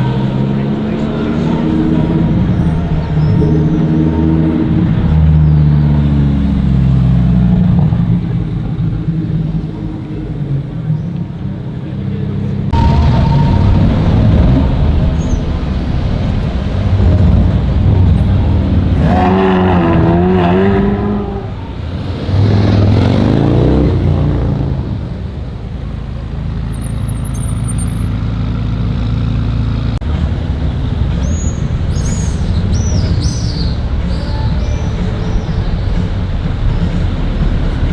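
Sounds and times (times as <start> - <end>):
engine note wavering: 0.0 - 37.9
engine revving: 0.0 - 37.9
steady engine drone: 0.0 - 37.9.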